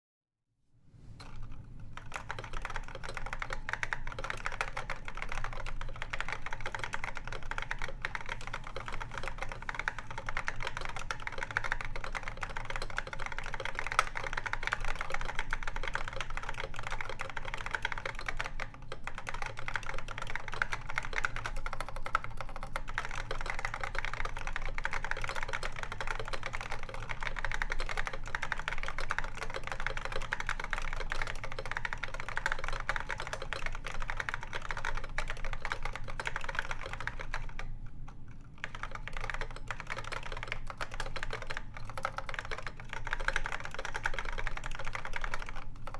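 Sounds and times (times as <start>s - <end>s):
fast typing on keyboard: 1.2s - 45.9s.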